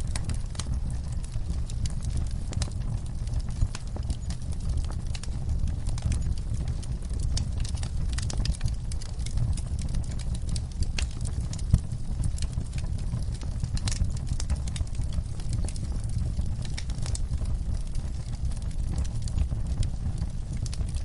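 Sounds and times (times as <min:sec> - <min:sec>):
campfire crackling: 0:00.0 - 0:21.0
steady low rumble: 0:00.0 - 0:21.0.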